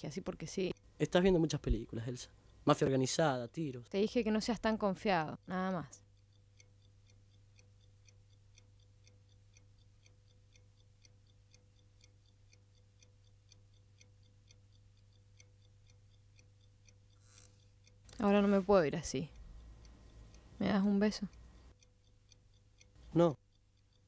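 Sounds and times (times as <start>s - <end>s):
clock ticking: 0.0s - 24.0s.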